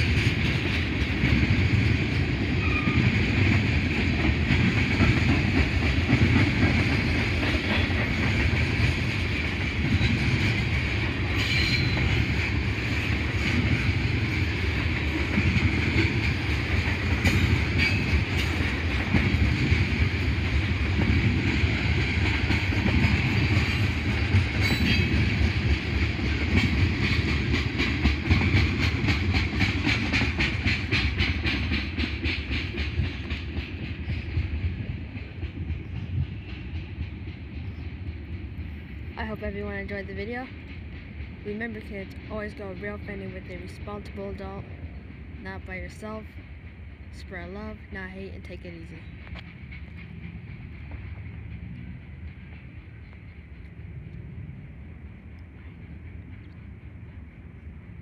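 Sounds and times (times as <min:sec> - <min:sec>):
freight train rumble: 0:00.0 - 0:58.0
wheels clacking over rail joints: 0:00.0 - 0:58.0.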